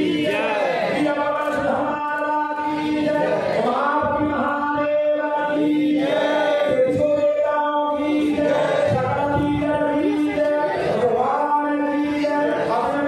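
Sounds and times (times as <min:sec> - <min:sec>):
person chanting into a microphone: 0:00.0 - 0:13.0.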